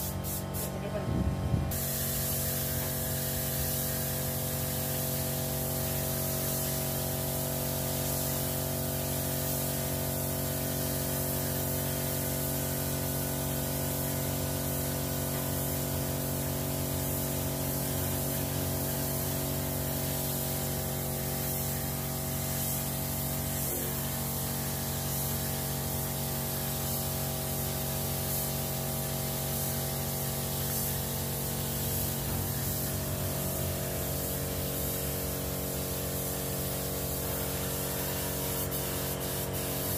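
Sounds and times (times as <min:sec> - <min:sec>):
spray gun hissing: 0:00.0 - 0:01.0, 0:01.7 - 0:39.9.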